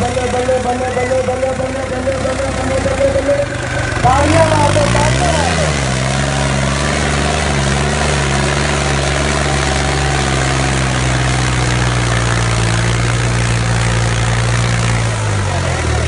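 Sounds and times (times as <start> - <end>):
tractor diesel engine straining: 0.0 - 16.0.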